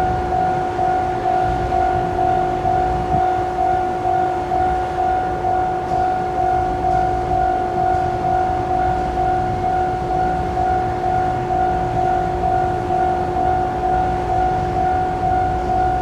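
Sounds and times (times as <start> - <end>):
level crossing warning bell: 0.0 - 16.0.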